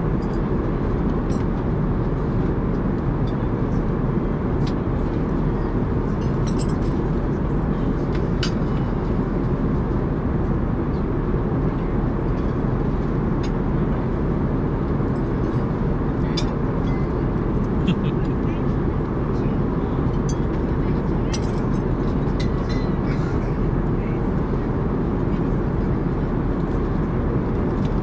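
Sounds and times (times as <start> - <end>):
airliner cabin noise: 0.0 - 28.0.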